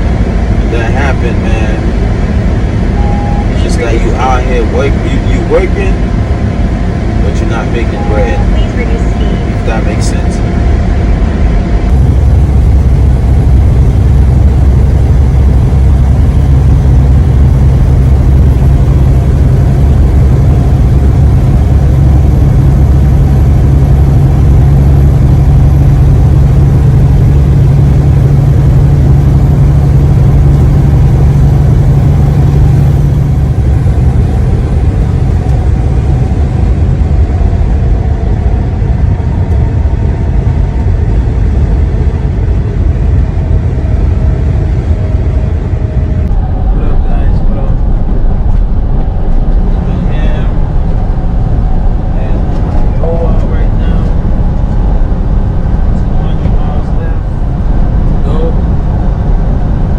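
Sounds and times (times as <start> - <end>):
road noise inside cab: 0.0 - 59.9
truck engine drone: 0.0 - 59.9.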